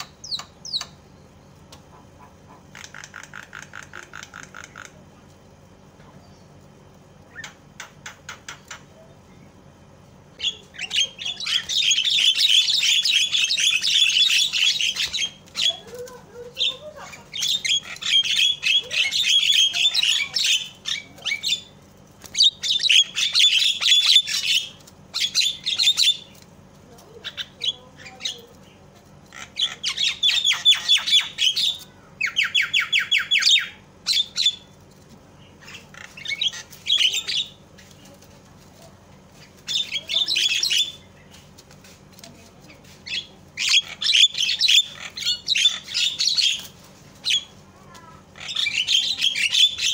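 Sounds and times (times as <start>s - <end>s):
bird harsh chattering calls: 0.0s - 5.1s, 10.4s - 26.4s, 27.1s - 38.2s, 39.2s - 42.1s, 42.7s - 49.9s.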